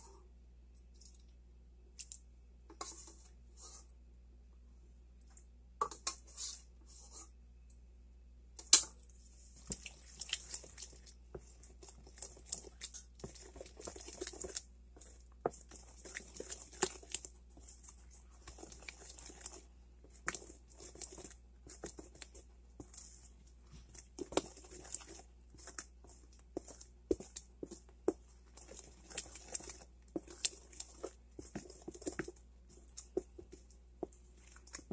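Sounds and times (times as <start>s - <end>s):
spoon stirring batter: 0.0s - 4.0s, 5.2s - 7.8s, 8.6s - 34.9s.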